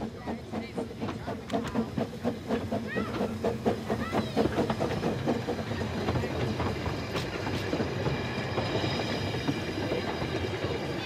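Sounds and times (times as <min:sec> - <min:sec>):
steam locomotive wheels clattering: 0:00.0 - 0:11.0.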